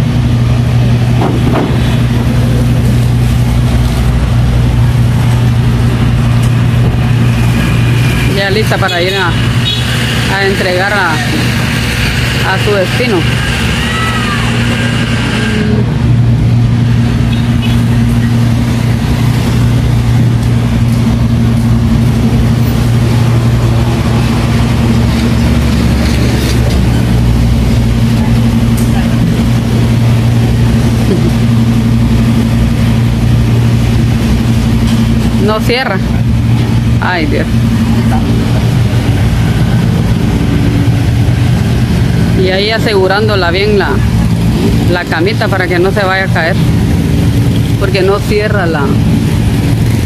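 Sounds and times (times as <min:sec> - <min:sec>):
street noise: 0:00.0 - 0:50.0
vehicle engine idling: 0:00.0 - 0:50.0.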